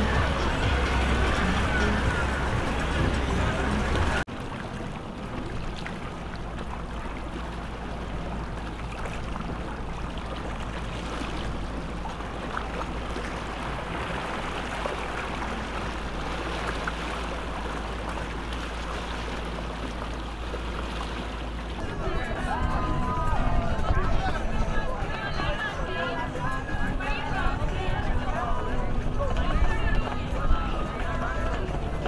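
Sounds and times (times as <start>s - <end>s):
motorboat engine running: 0.0s - 32.0s
water splashing around hull: 0.0s - 32.0s.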